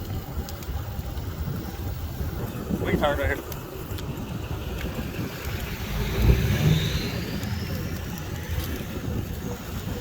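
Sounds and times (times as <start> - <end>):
wind buffet: 0.0 - 10.0
wind rumbling on microphone: 0.0 - 10.0.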